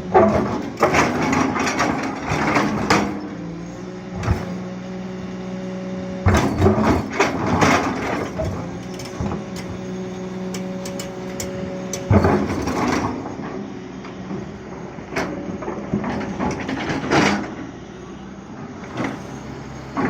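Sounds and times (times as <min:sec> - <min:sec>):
excavator engine hum: 0:00.0 - 0:20.0.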